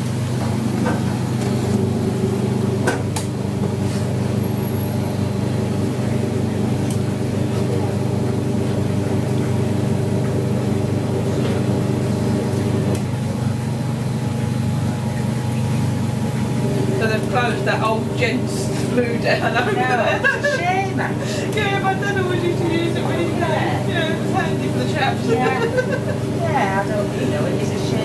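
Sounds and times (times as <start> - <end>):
washing machine hum: 0.0 - 28.0.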